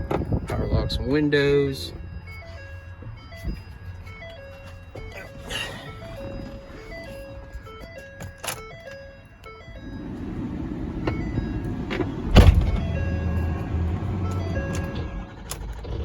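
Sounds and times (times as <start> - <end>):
dashboard warning chimes beeping: 0.0 - 16.0
diesel engine cranking and idling: 0.0 - 16.0.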